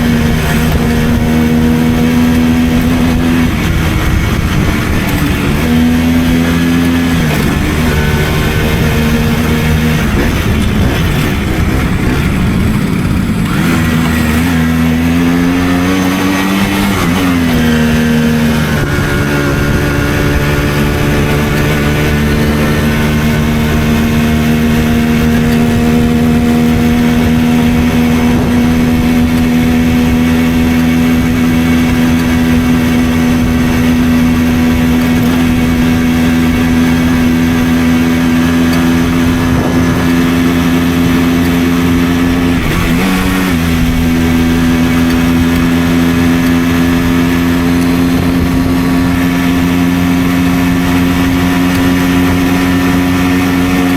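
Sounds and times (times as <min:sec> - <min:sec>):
moped engine running: 0:00.0 - 0:53.9.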